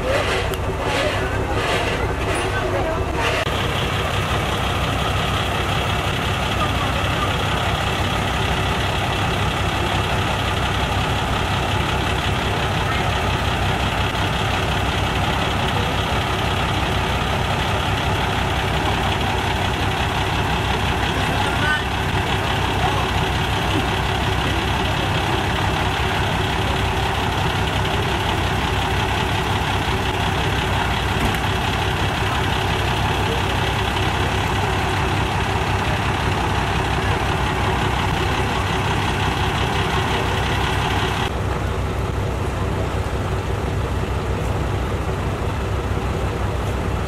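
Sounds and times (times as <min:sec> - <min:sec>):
fire truck engine idling: 0:00.0 - 0:47.0.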